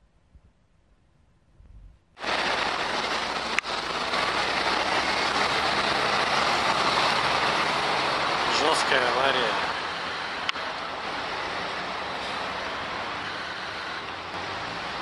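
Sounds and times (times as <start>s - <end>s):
road traffic rushing past: 2.2s - 15.0s.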